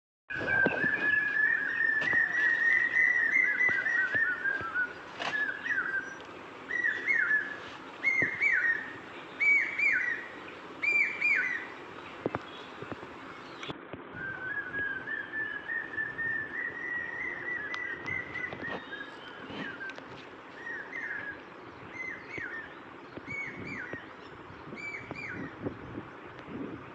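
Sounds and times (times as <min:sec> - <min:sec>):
whistled bird-like calls: 0:00.3 - 0:11.7, 0:13.4 - 0:20.0, 0:20.6 - 0:24.1, 0:24.8 - 0:25.6.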